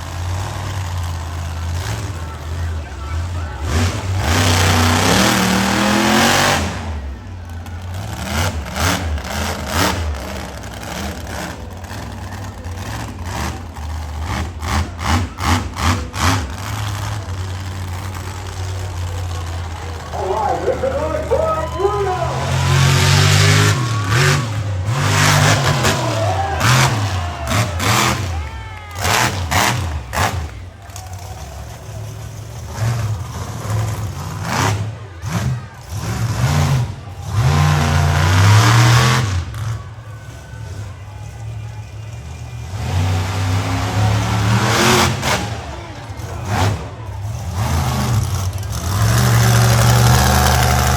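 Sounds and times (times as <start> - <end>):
monster truck engine revving: 0.0 - 50.9.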